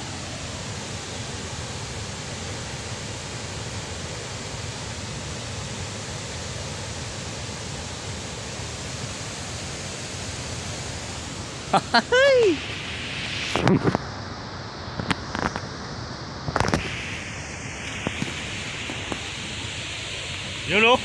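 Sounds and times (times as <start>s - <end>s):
water rushing below spillway: 0.0s - 21.0s.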